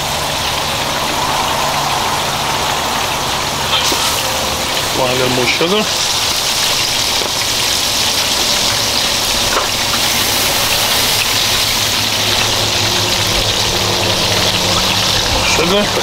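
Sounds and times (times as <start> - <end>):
sauce boiling and sizzling: 0.0 - 16.0.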